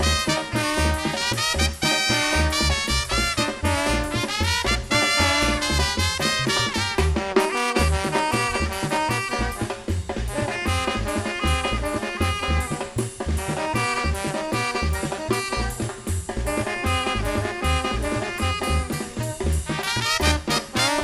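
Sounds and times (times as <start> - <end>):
brass band playing: 0.0 - 21.0
drum beat: 0.0 - 21.0.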